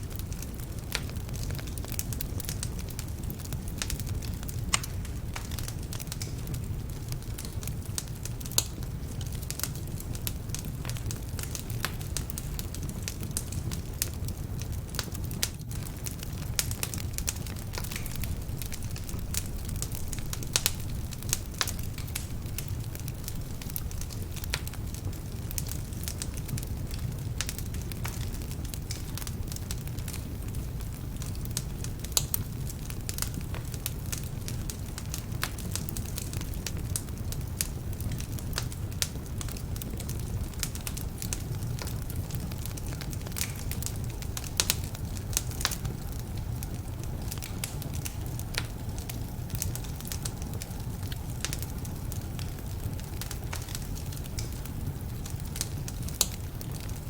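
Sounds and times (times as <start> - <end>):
fire rumbling: 0.0 - 57.0
logs crackling and popping: 0.0 - 57.0.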